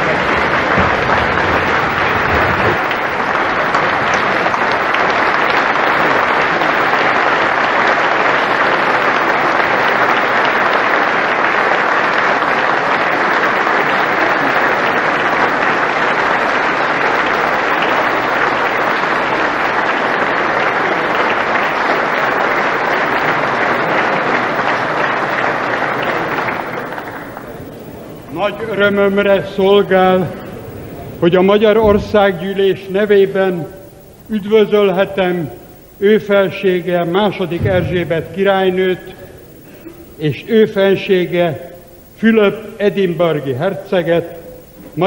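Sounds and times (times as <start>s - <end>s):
crowd applauding: 0.0s - 41.4s.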